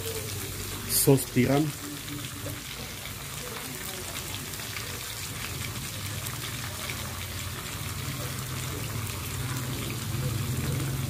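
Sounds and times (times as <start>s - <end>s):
sauce pouring: 0.0s - 11.0s.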